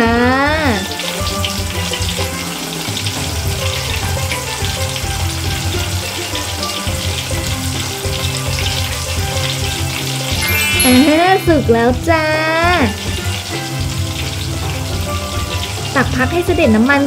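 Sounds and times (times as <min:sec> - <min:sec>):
batter deep-frying in hot oil: 0:00.0 - 0:10.5, 0:11.4 - 0:17.0.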